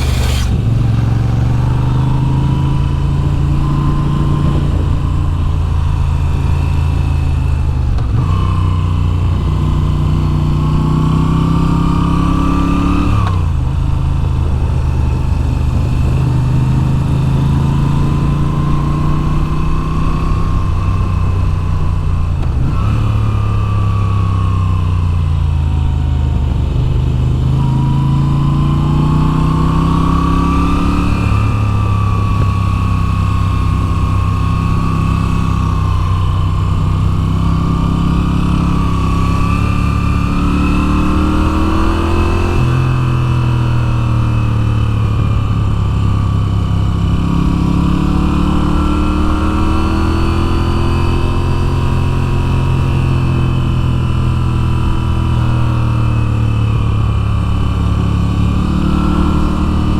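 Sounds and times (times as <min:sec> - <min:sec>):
motorcycle engine under way: 0:00.0 - 0:59.9.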